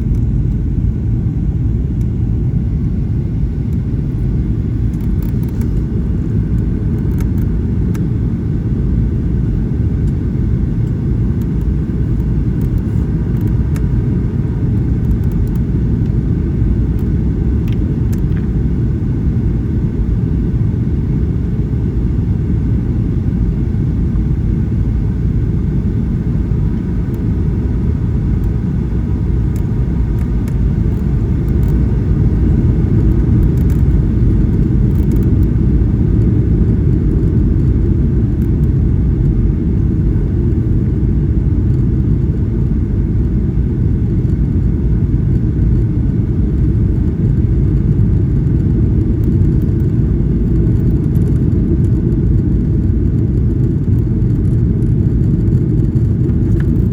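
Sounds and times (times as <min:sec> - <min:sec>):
airplane cabin engine rumble: 0:00.0 - 0:56.9.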